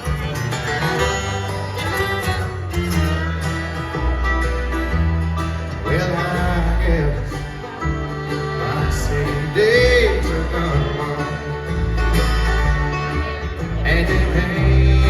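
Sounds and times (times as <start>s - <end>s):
banjo: 0.0s - 15.0s
deep bass line: 0.0s - 15.0s
picked acoustic guitar: 0.0s - 15.0s.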